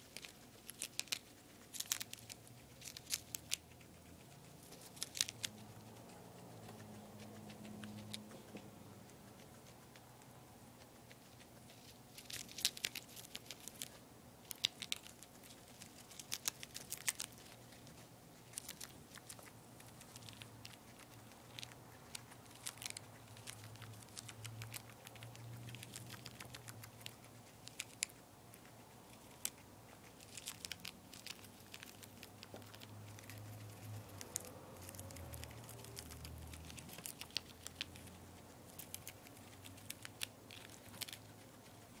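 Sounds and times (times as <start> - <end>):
guinea pig crunching lettuce: 0.0 - 42.0.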